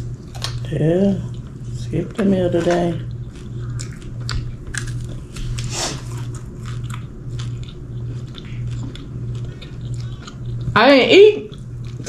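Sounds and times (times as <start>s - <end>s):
crunchy chewing of fried meat: 0.0s - 10.8s, 11.4s - 12.0s
low pulsing hum: 0.0s - 12.0s.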